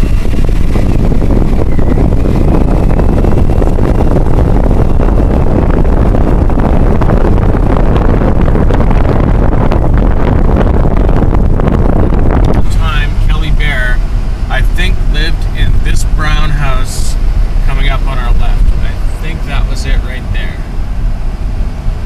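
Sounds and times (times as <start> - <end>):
road and engine noise: 0.0 - 22.0
wind rumble on microphone: 0.0 - 22.0.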